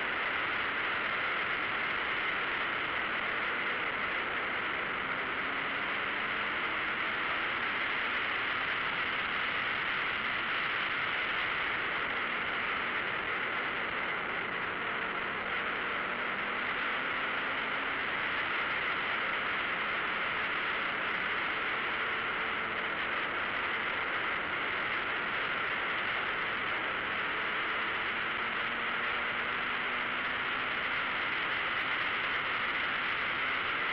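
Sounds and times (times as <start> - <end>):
wind and road noise: 0.0 - 33.9.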